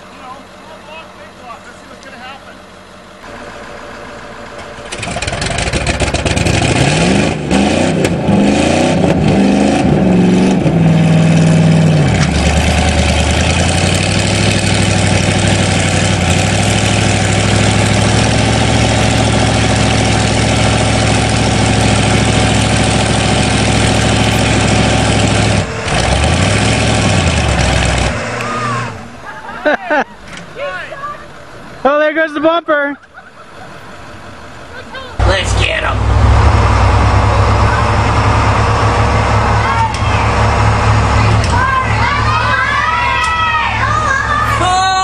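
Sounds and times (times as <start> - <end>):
engines revving hard under load: 3.2 - 29.3, 33.6 - 44.8.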